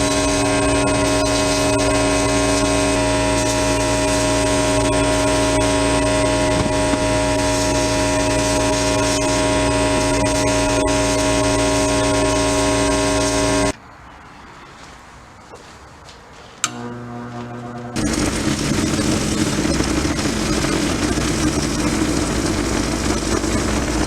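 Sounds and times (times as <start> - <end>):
power tool humming: 0.0 - 13.8, 16.6 - 24.0.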